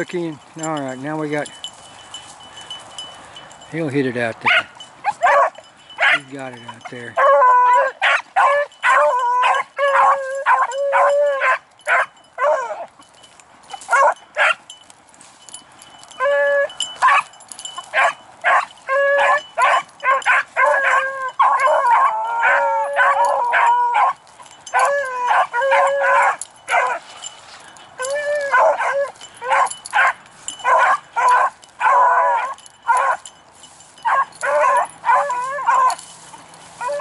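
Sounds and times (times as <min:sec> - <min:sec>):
beagles baying: 0:00.0 - 0:03.7, 0:04.4 - 0:37.0.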